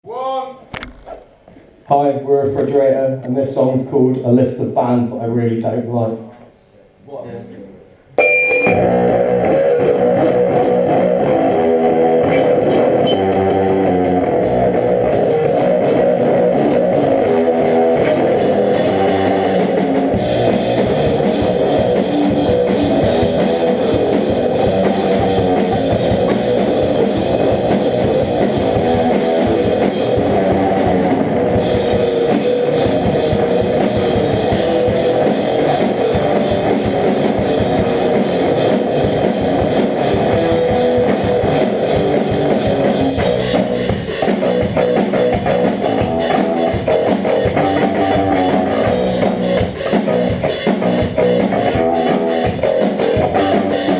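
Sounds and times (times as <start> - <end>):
rock band playing: 8.2 - 53.9.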